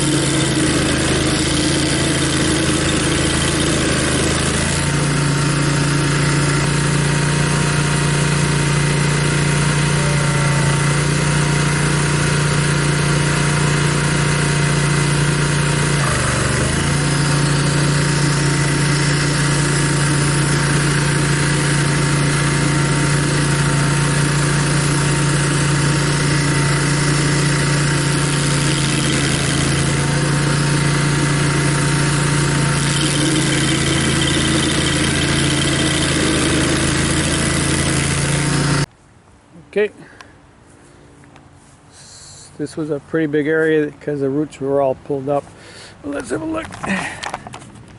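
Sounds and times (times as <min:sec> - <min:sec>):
stump grinder engine running: 0:00.0 - 0:38.9, 0:45.6 - 0:47.6.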